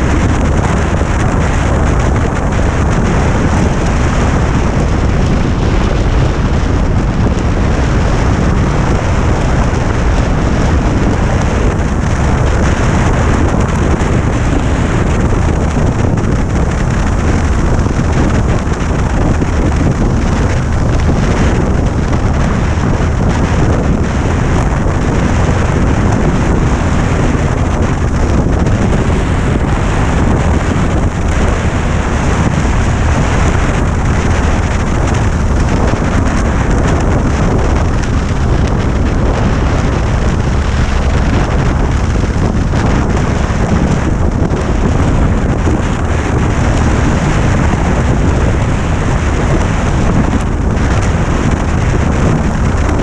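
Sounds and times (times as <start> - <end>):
motorcycle running: 0.0 - 53.0
wind noise on microphone: 0.0 - 53.0.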